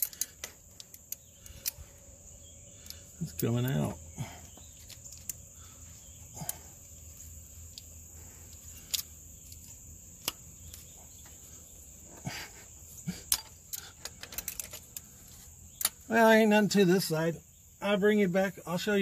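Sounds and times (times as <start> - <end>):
cricket trill: 0.0 - 19.0.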